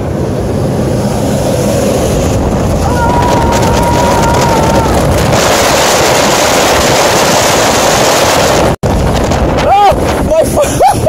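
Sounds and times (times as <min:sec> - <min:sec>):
furnace blower air rushing: 0:00.0 - 0:11.0.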